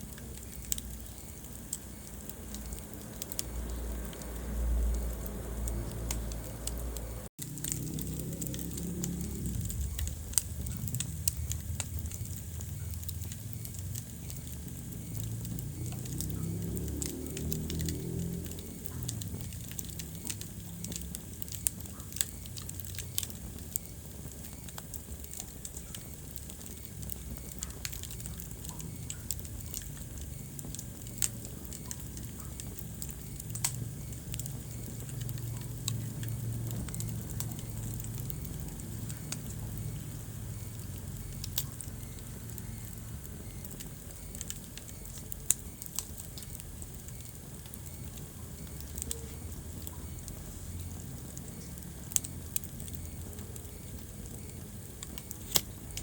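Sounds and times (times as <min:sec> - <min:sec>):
wood fire rumbling and crackling: 0:00.0 - 0:56.0.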